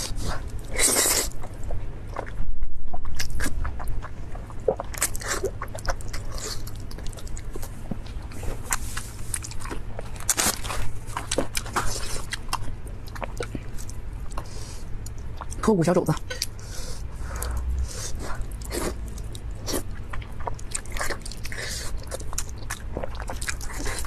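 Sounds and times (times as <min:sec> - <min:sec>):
biting and chewing: 0:00.0 - 0:15.6, 0:17.3 - 0:24.0.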